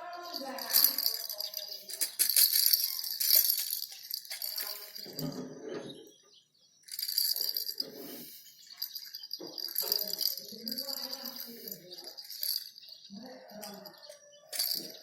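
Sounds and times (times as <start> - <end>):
rattling and jingling shaken object: 0.0 - 5.6, 6.9 - 15.0.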